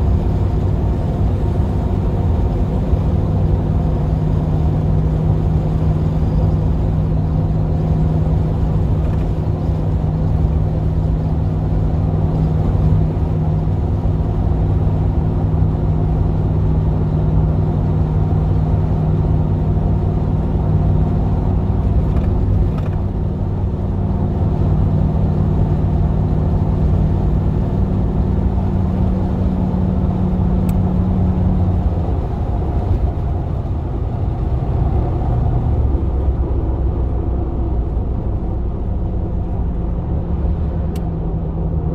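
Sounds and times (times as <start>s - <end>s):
road noise: 0.0s - 41.9s
van engine running: 0.0s - 41.9s.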